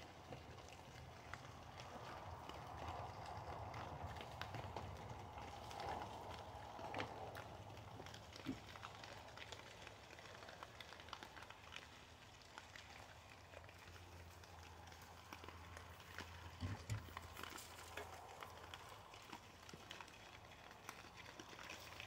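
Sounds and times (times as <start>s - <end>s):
hogs crunching corn: 0.0s - 22.0s.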